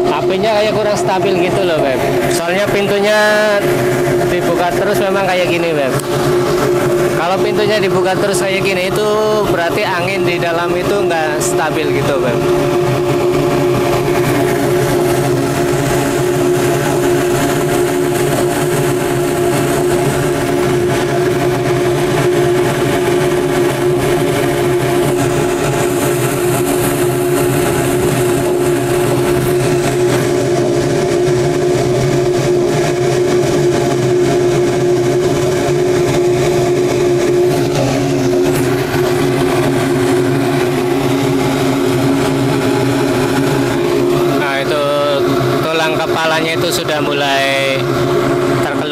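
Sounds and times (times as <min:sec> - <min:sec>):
furnace burner roaring: 0:00.0 - 0:48.9
mechanical hum: 0:00.0 - 0:48.9.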